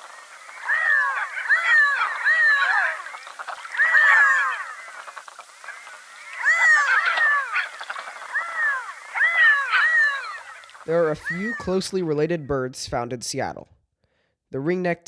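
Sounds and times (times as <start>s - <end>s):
ducks calling: 0.0s - 12.5s.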